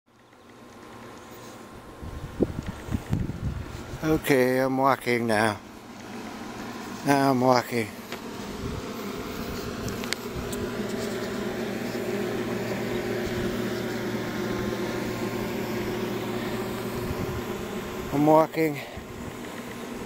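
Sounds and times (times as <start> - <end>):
machine hum: 0.2 - 20.0.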